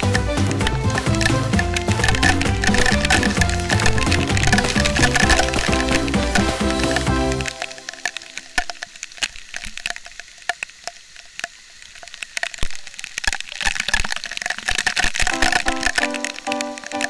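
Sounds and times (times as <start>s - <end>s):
water drops cracking on microphone: 0.0s - 17.0s.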